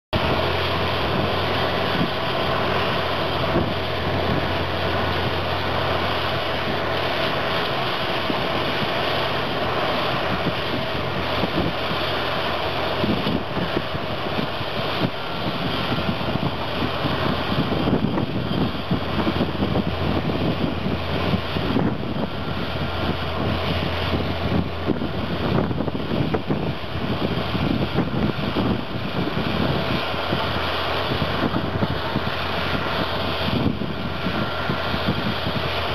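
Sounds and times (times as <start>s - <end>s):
bulldozer diesel engine drone: 0.1s - 35.9s.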